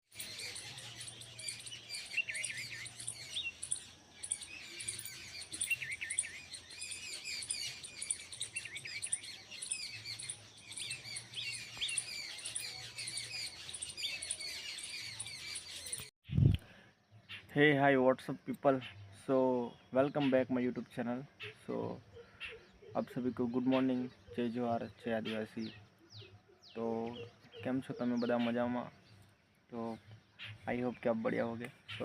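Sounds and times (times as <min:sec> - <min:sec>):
small birds chirping and trilling: 0:00.1 - 0:32.0.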